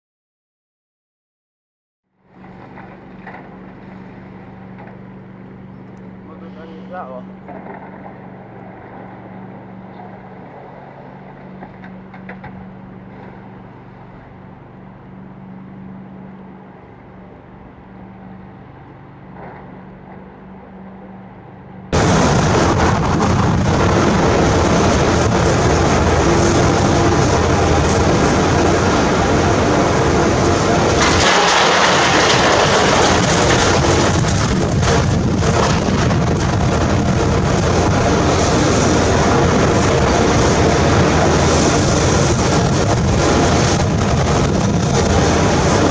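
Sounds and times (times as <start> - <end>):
diesel engine humming: 2.2 - 45.9
loud rough rumbling: 2.2 - 45.9.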